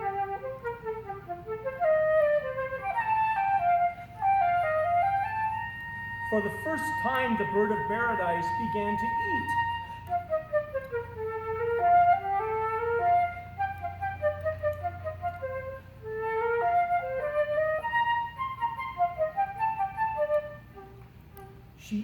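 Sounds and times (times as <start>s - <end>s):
solo flute playing: 0.0s - 22.0s.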